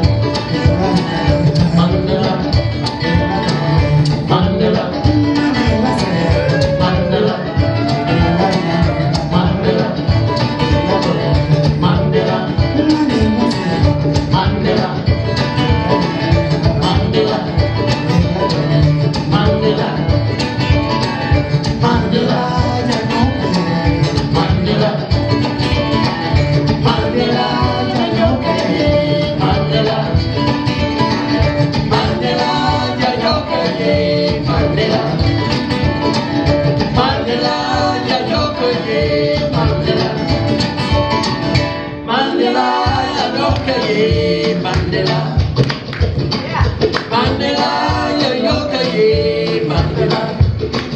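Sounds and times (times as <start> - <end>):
plucked string instruments: 0.0 - 50.9.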